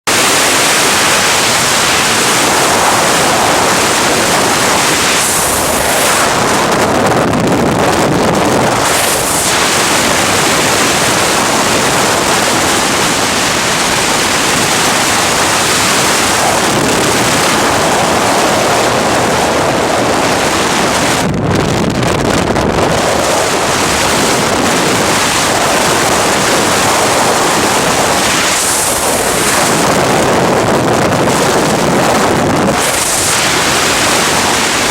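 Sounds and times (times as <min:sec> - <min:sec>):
strong wind on microphone: 0:00.0 - 0:34.9.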